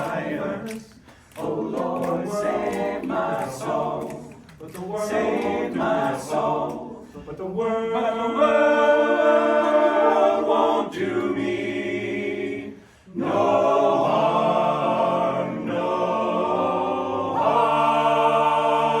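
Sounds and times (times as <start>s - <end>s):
men's choir singing in harmony: 0.0s - 19.0s.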